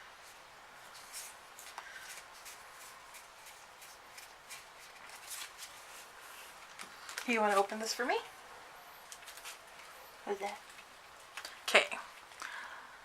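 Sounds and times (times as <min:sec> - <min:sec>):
trading cards rustling: 0:00.2 - 0:12.4.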